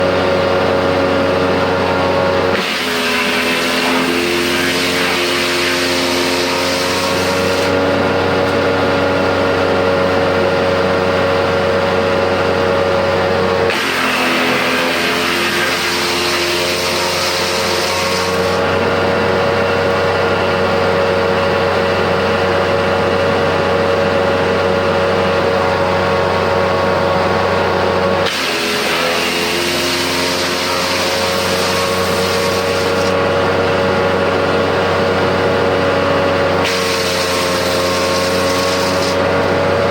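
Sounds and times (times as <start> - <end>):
wood chipper engine running: 0.0 - 39.9
harsh wood chipping noise: 0.2 - 9.7, 12.5 - 20.7, 25.3 - 39.9.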